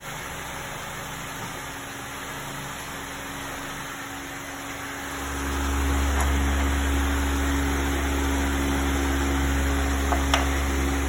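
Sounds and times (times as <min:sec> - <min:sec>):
motor noise: 0:00.0 - 0:11.0
deep low hum: 0:01.6 - 0:11.0.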